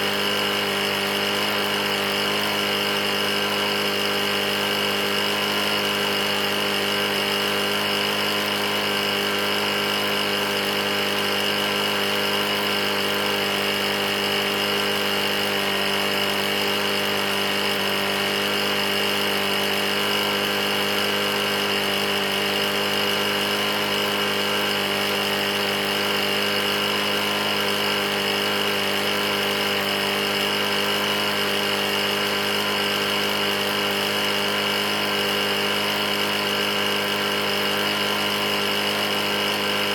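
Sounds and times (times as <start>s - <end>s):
lawn mower engine knocking: 0.0s - 39.9s.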